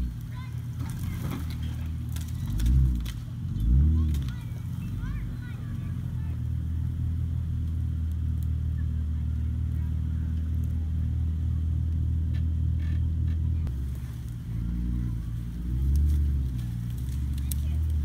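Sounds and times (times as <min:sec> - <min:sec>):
off-road vehicle engine running: 0:00.0 - 0:18.0.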